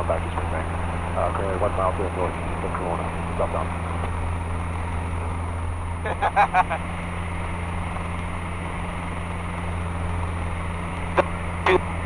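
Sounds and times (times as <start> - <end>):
airplane engine drone in cabin: 0.0 - 12.0.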